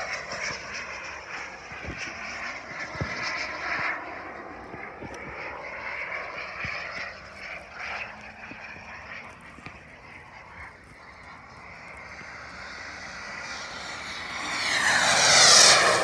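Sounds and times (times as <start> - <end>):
jet turbine rush: 0.0 - 16.0
wind buffeting microphone: 0.0 - 16.0.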